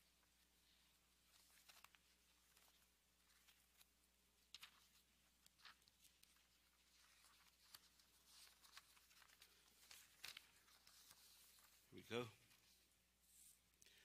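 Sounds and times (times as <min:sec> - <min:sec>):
pages rustling: 0:00.0 - 0:13.8.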